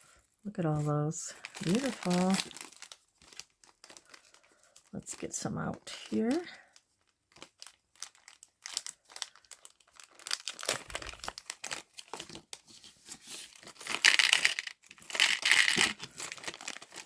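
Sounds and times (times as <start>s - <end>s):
plastic packaging crinkling: 0.5s - 17.0s.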